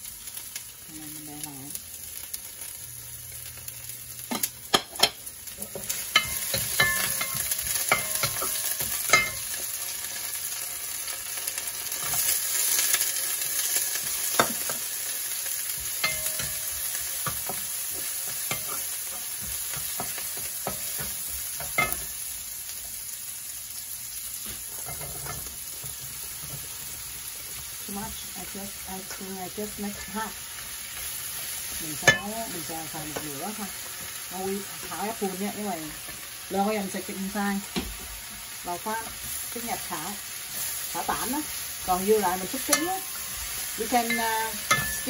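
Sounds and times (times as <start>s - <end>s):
oil sizzling in a wok: 0.0s - 45.0s.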